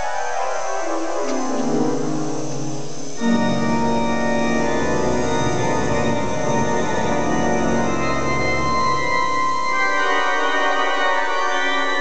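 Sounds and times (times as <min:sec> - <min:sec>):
church organ chords: 0:00.0 - 0:12.0.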